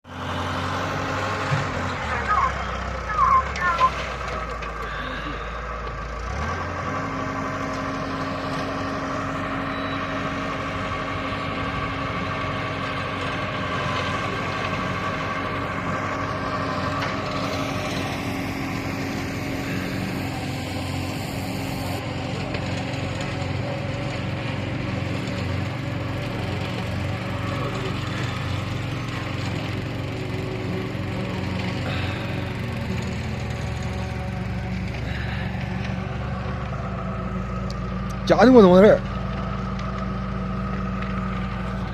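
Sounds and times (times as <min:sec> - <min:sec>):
concrete mixer engine running: 0:00.0 - 0:41.9.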